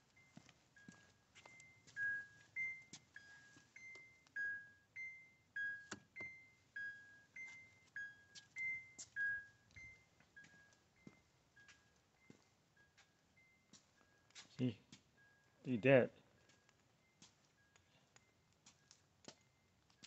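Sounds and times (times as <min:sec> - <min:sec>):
two-note electronic warning chime: 0:00.0 - 0:18.8.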